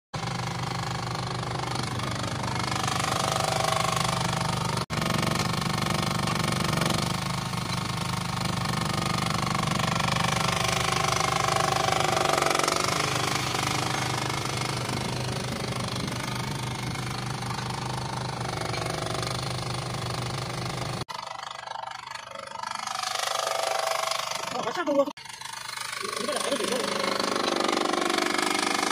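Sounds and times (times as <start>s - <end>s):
hydraulic whine: 0.2s - 28.9s
small excavator engine running: 0.2s - 28.9s.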